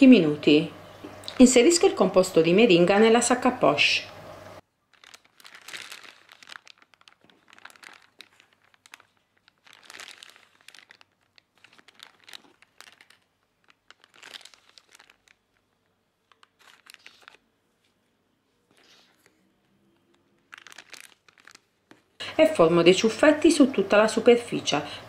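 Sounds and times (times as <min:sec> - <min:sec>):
plastic piping bag crinkling: 0:04.6 - 0:25.0.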